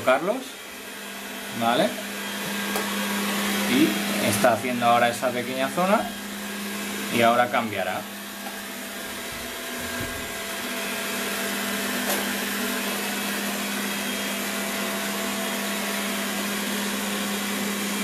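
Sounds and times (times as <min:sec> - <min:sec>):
robot vacuum whirring: 0:00.1 - 0:18.0.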